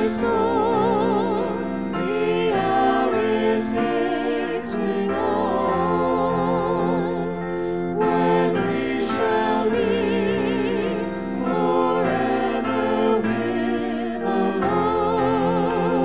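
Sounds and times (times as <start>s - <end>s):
sustained instrumental accompaniment: 0.0s - 16.0s
voices singing with vibrato: 0.0s - 16.0s.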